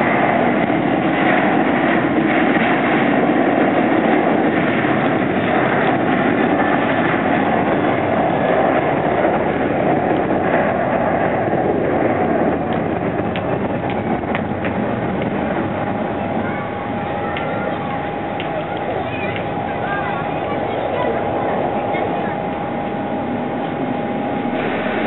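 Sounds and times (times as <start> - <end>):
jet engines at takeoff thrust: 0.0 - 25.0.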